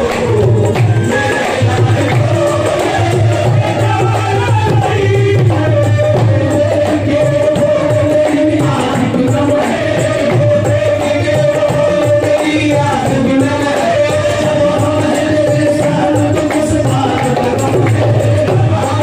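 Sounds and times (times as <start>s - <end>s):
steady rhythmic beat: 0.0s - 19.0s
voices singing devotional song: 0.0s - 19.0s.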